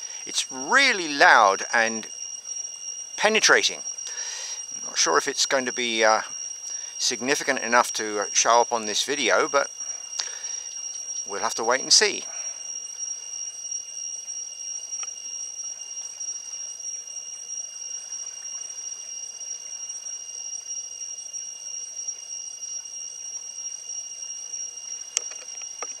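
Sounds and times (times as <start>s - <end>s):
insects droning shrilly: 0.0s - 26.0s.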